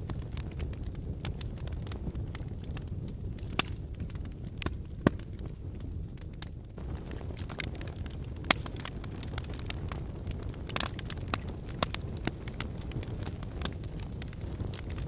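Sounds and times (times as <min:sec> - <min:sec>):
fire crackling: 0:00.0 - 0:15.0
fire popping and snapping: 0:00.0 - 0:15.0.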